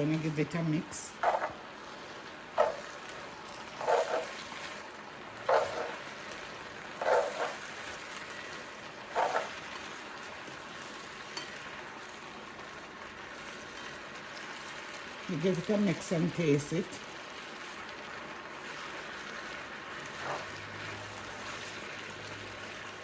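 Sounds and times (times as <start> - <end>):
stir-fry sizzling in a pan: 0.0 - 23.0
stirring strokes: 0.0 - 23.0.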